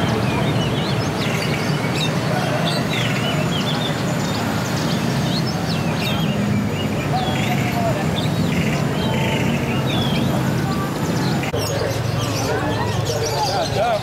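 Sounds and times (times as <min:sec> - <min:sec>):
low rumble of traffic: 0:00.0 - 0:14.0
songbirds chirping and twittering: 0:00.0 - 0:14.0.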